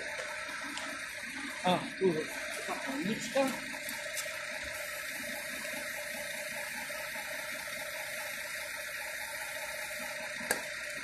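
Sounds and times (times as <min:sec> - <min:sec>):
compressed air hissing: 0:01.4 - 0:11.0.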